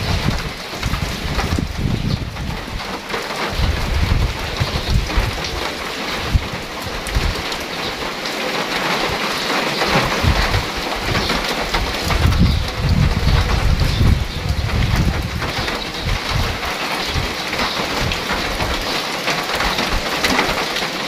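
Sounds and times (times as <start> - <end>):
rain on gravel and puddles: 0.0 - 21.0.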